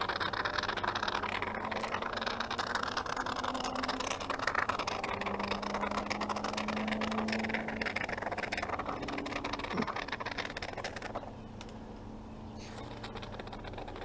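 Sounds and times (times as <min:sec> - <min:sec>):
spray foam can sputtering: 0:00.0 - 0:11.4, 0:12.6 - 0:14.0
steady hum: 0:00.0 - 0:14.0.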